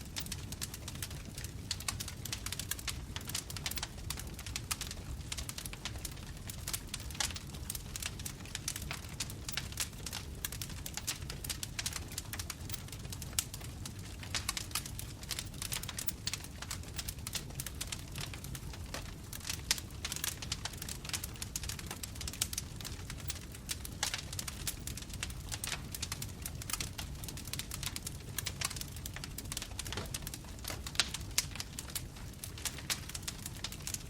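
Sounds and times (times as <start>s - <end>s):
bonfire crackling: 0.0s - 34.0s.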